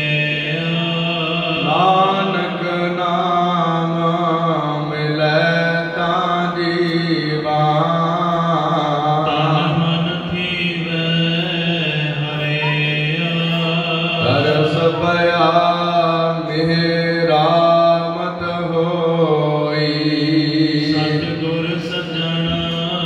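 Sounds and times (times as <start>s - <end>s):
chant in long sliding notes: 0.0s - 23.0s.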